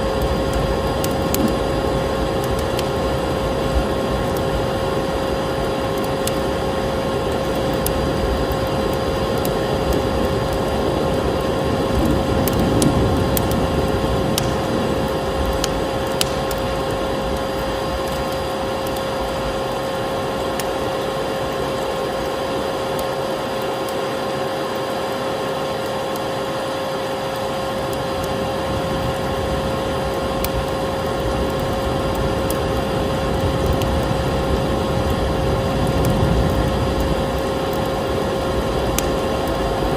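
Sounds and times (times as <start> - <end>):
vacuum cleaner droning: 0.0 - 39.9
wood fire crackling: 0.0 - 39.9.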